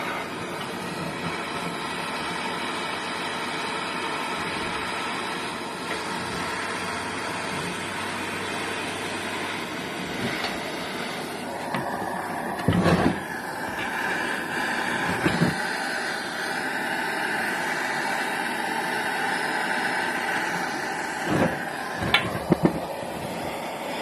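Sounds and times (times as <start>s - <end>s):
gas torch hissing: 0.0s - 24.0s.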